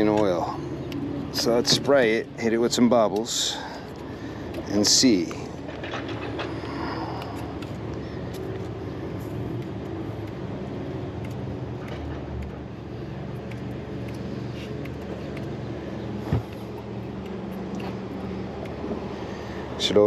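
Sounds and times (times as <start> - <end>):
air conditioning hum: 0.0 - 20.0.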